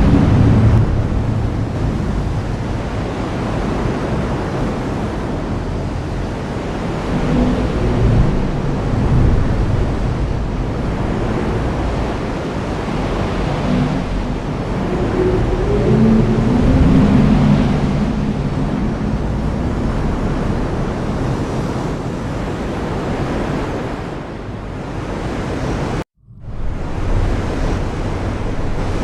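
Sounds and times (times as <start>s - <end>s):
thunder rumbling: 0.0s - 21.6s, 26.3s - 29.0s.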